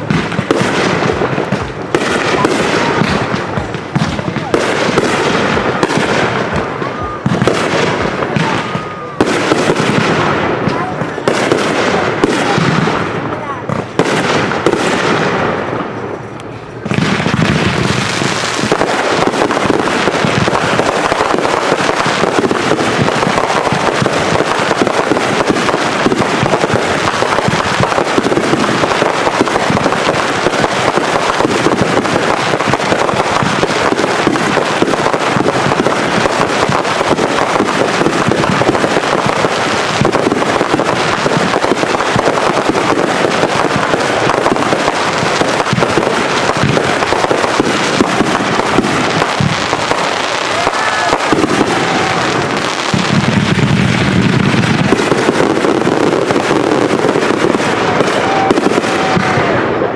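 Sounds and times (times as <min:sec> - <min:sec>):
fireworks crackling and popping: 0:00.0 - 0:59.9.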